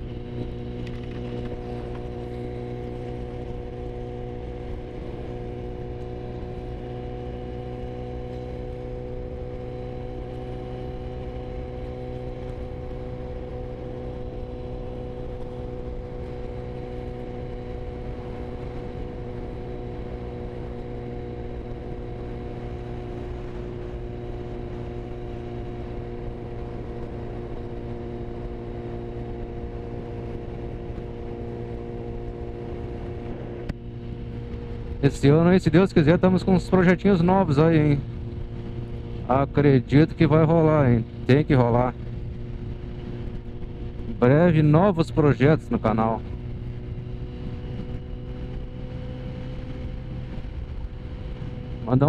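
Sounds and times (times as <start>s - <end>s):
motorcycle engine cruising: 0.0s - 52.0s
wind and road noise: 0.0s - 52.0s.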